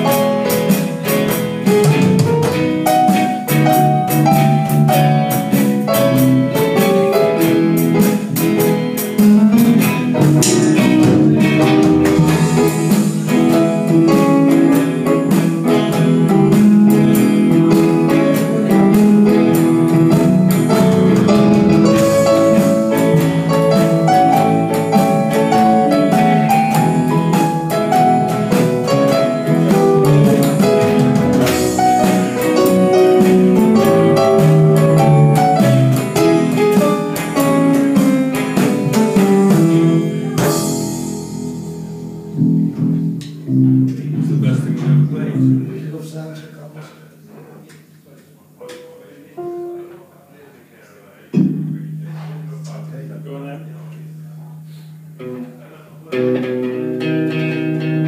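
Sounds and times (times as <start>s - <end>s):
electric guitar: 0.0s - 45.8s, 47.3s - 49.9s, 51.3s - 58.0s
bass guitar: 0.0s - 46.0s, 51.4s - 58.0s
drum kit: 0.0s - 46.3s, 51.4s - 58.0s
keyboard: 0.0s - 46.4s, 47.0s - 58.0s.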